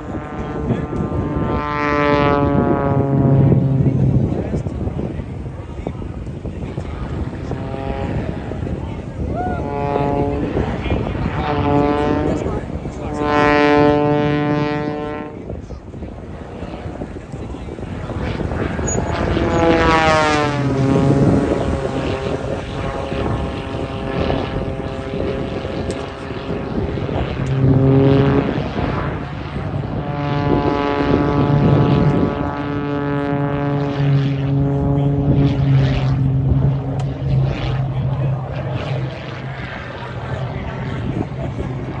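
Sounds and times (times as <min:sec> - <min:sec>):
propeller plane engine buzzing: 0:00.0 - 0:42.0.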